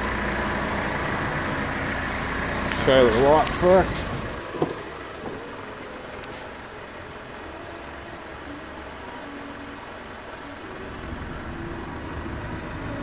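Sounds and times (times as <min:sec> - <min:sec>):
pickup engine idling: 0:00.0 - 0:13.0.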